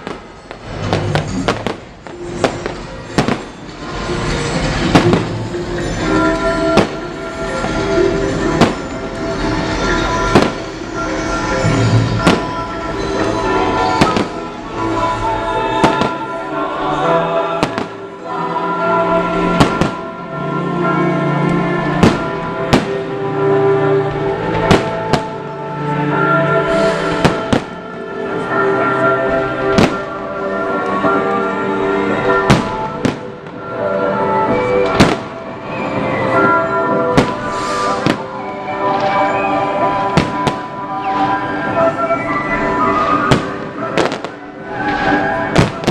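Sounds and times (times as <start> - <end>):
fireworks banging: 0.0 - 45.9
music playing: 0.0 - 45.9.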